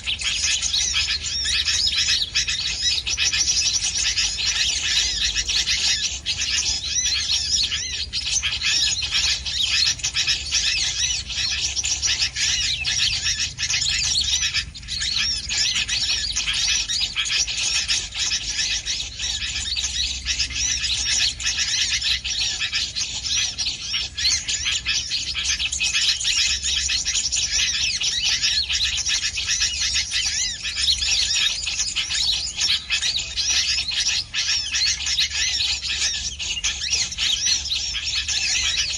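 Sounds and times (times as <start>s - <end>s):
small birds chattering: 0.0s - 38.9s.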